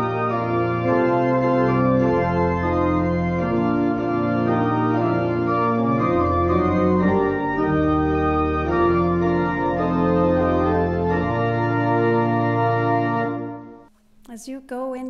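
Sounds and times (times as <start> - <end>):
church organ playing chords: 0.0 - 13.9.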